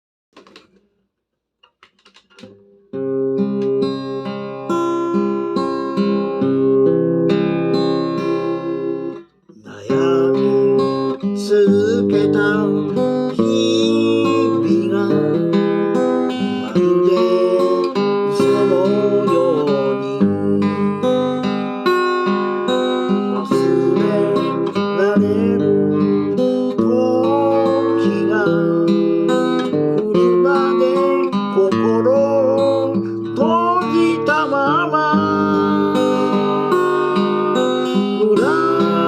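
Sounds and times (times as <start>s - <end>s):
acoustic guitar playing: 0.4s - 1.0s, 1.6s - 39.0s.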